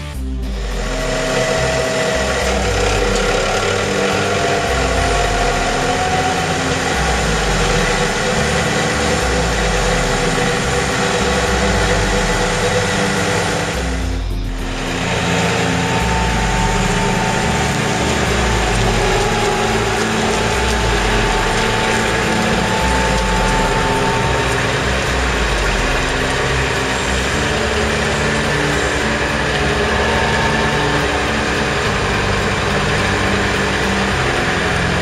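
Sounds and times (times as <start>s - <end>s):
forklift engine running: 0.0s - 35.0s
steady whine: 0.0s - 35.0s.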